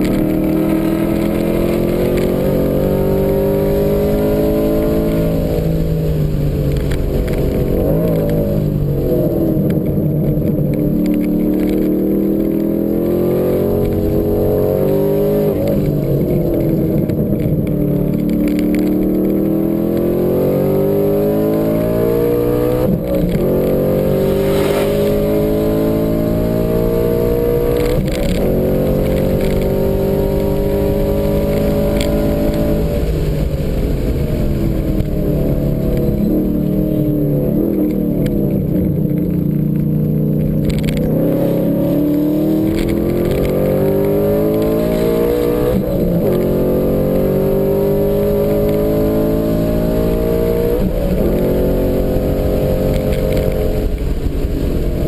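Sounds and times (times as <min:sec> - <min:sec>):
car engine accelerating hard: 0:00.0 - 0:55.0
throttle blips on downshifts: 0:00.0 - 0:55.0.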